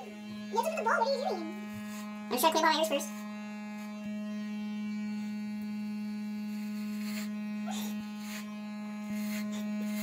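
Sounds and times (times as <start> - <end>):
electric hair clippers buzzing: 0.0 - 10.0.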